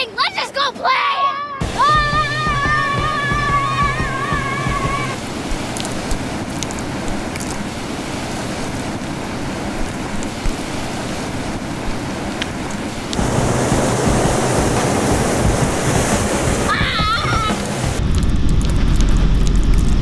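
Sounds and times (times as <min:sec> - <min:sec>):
ocean surf: 0:00.0 - 0:19.1
wind on microphone: 0:01.6 - 0:20.0.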